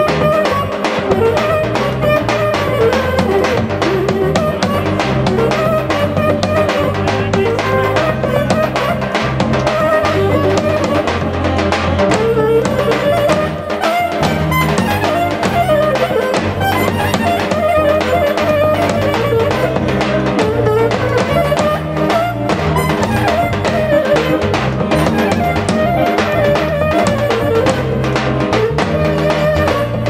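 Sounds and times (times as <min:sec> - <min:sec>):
accordion: 0:00.0 - 0:30.0
clarinet melody: 0:00.0 - 0:30.0
steady drum beat: 0:00.0 - 0:30.0.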